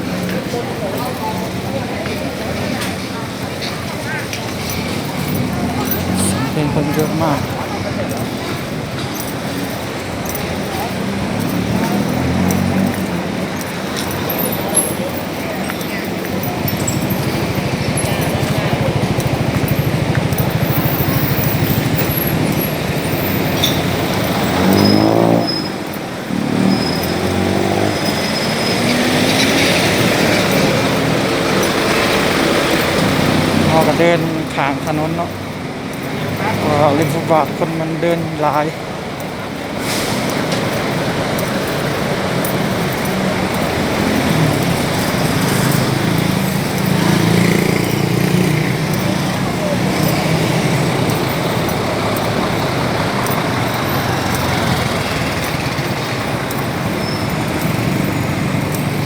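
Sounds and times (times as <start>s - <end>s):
motorcycle and car engines passing: 0.0s - 59.0s
tyres on the road: 0.0s - 59.0s.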